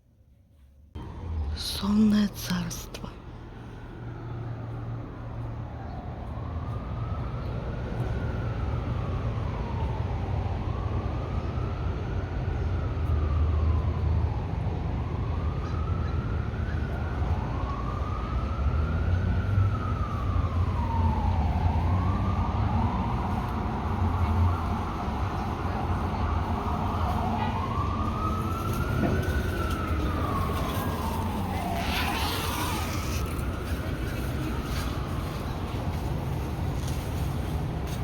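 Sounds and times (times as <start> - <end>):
low traffic rumble: 0.0 - 38.0
emergency siren wailing: 3.4 - 38.0.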